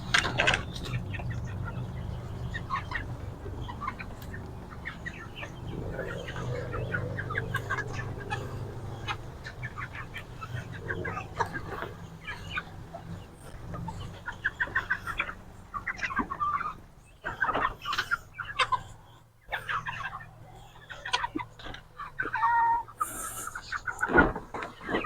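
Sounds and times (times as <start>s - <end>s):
steady low hum: 0.0s - 22.3s
chickens clucking and peeping: 0.0s - 25.0s.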